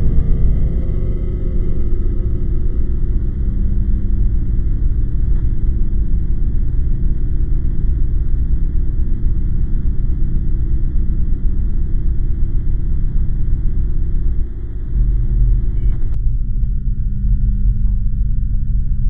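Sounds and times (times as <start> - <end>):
loud fluttering low rumble: 0.0 - 19.0.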